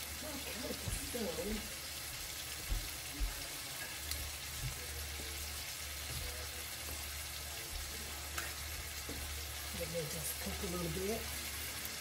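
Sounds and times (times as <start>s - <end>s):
shrimp sizzling in butter: 0.0s - 12.0s.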